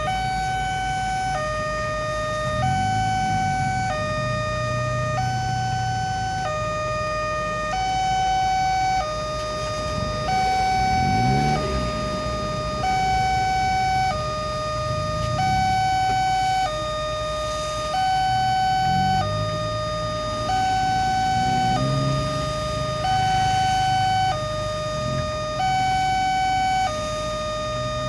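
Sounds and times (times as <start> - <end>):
passing vehicle engine: 0.0 - 8.0, 9.0 - 16.9, 18.3 - 25.8, 27.0 - 28.0
two-tone crossing alarm: 0.0 - 28.0.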